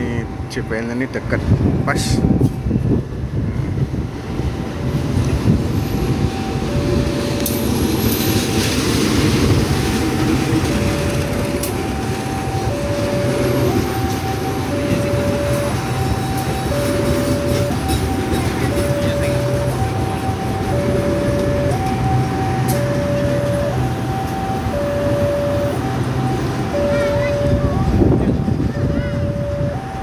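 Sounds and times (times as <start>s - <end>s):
diesel locomotive engine running: 0.0s - 30.0s
train wheels rumbling on rails: 0.0s - 30.0s
two-tone crossing warning alarm: 0.0s - 30.0s.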